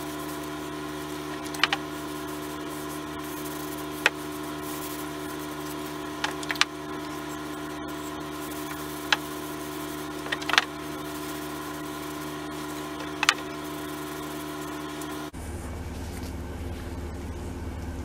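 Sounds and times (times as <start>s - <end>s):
rag rubbing wood: 0.0s - 15.3s
steady hum: 0.0s - 18.0s.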